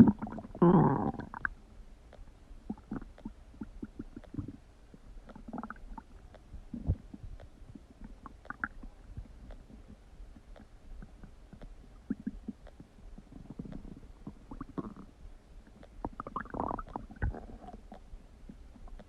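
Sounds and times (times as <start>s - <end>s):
stomach gurgling and rumbling: 0.0s - 1.6s, 2.6s - 19.0s.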